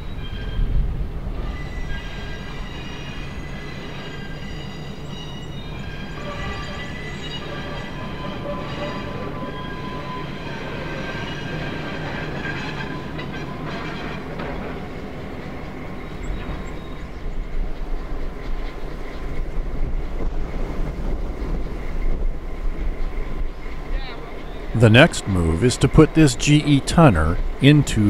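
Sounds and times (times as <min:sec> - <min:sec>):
diesel locomotive running: 0:00.0 - 0:28.0.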